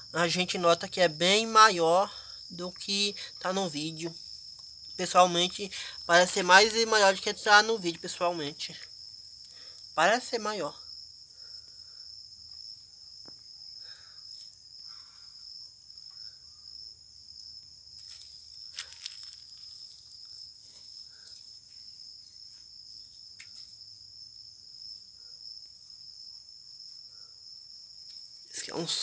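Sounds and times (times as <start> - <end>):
high-pitched insect chirring: 0.0 - 29.0.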